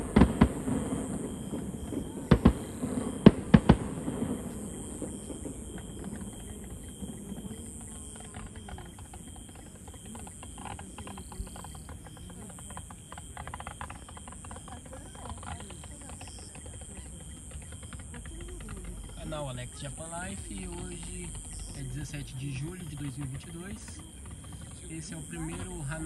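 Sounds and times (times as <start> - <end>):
fireworks clicks and crackles: 0.0 - 22.2
distant voices murmuring: 0.0 - 26.0.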